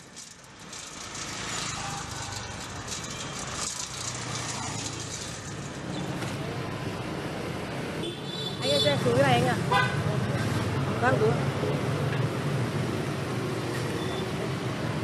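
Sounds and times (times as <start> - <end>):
street traffic engines: 0.0 - 15.0.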